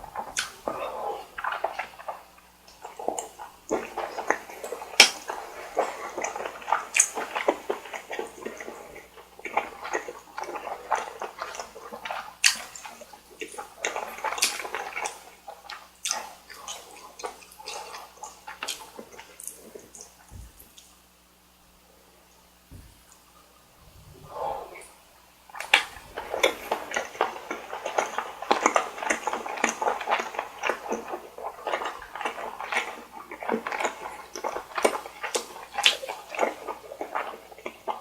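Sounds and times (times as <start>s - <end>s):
wet chewing with mouth smacks: 0.0s - 21.0s, 22.7s - 38.0s.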